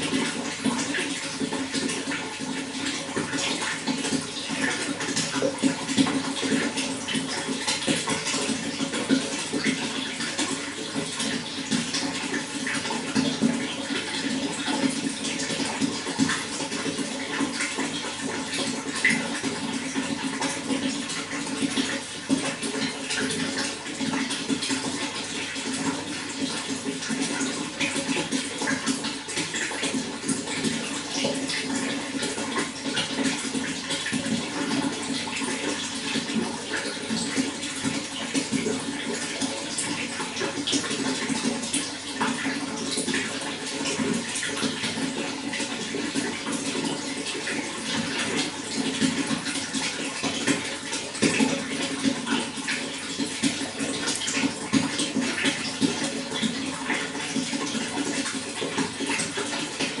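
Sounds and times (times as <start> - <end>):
running water flowing: 0.0 - 60.0.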